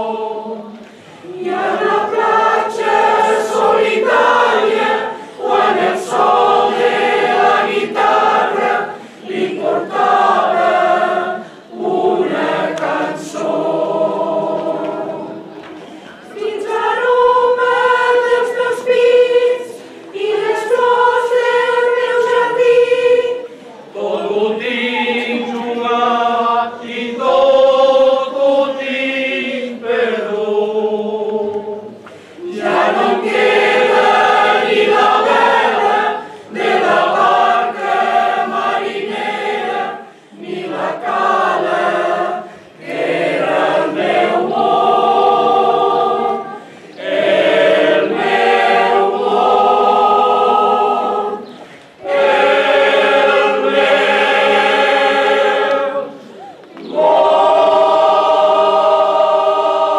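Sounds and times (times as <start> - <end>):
mixed choir singing unaccompanied: 0.0 - 59.9.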